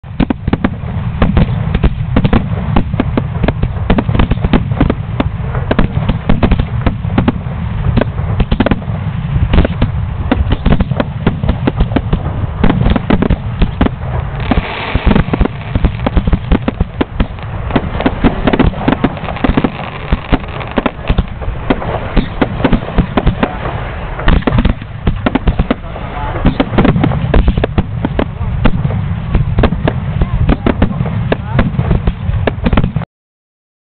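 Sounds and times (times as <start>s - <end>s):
fireworks bangs and crackles: 0.0s - 33.0s
fireworks hiss: 0.1s - 33.0s.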